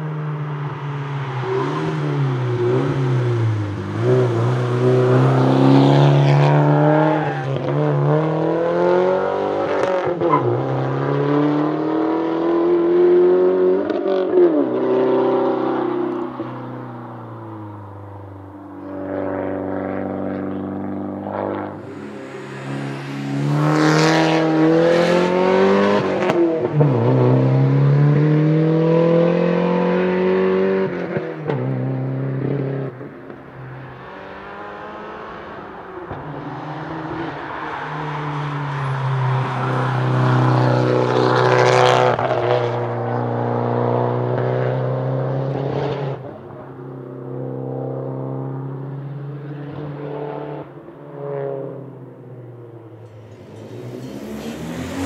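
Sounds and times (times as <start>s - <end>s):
race car engines accelerating: 0.0s - 55.0s.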